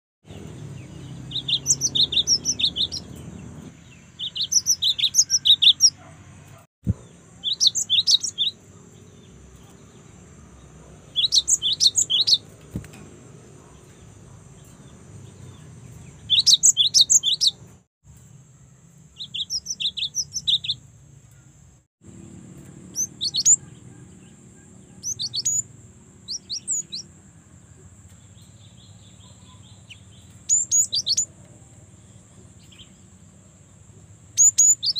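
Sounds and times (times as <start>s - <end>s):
bird chirping: 0.2s - 34.9s.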